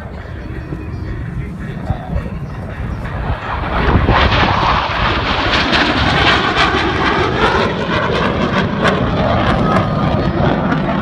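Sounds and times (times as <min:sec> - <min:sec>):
fighter jets flying over: 0:00.0 - 0:11.0.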